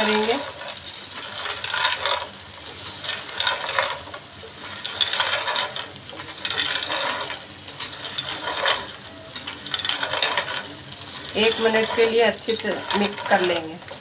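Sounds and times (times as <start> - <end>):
dry pasta rattling in a pot: 0.0 - 14.0.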